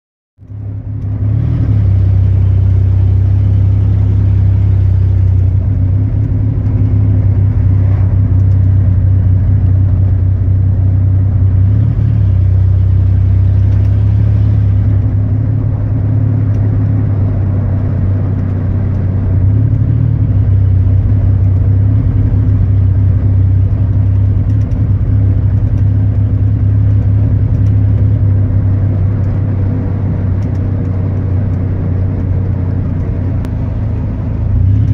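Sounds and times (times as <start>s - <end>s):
engine running with a misfire: 0.4s - 34.9s.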